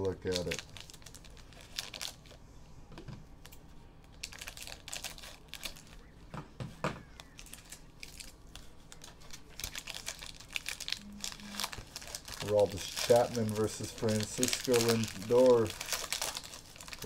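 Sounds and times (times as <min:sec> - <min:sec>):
plastic packaging rustling: 0:00.0 - 0:02.4, 0:03.4 - 0:06.1, 0:07.1 - 0:17.0.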